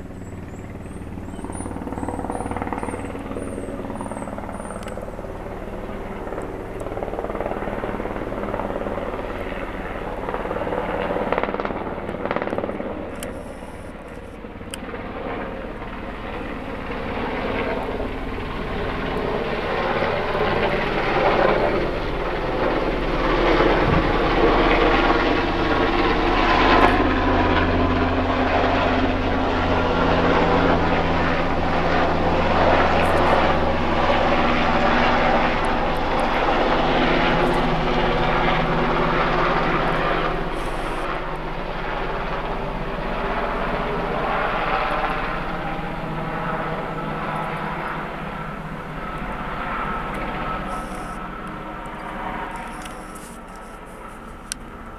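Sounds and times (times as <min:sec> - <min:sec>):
helicopter rotor and turbine: 0:00.0 - 0:54.9.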